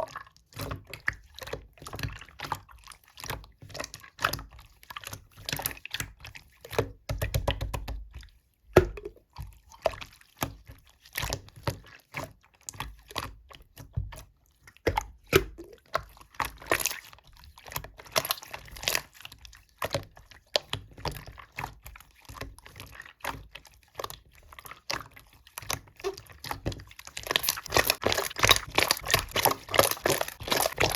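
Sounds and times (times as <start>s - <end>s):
slime squelching by hand: 0.0s - 30.9s.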